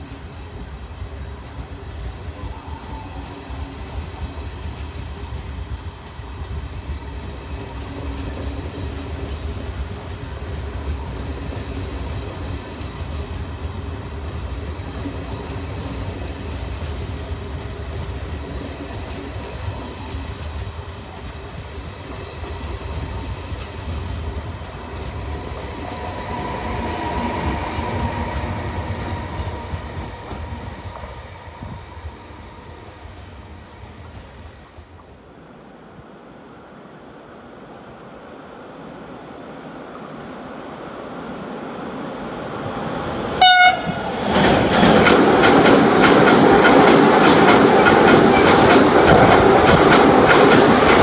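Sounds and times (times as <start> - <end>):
train coaches rumbling on rails: 0.0 - 51.0.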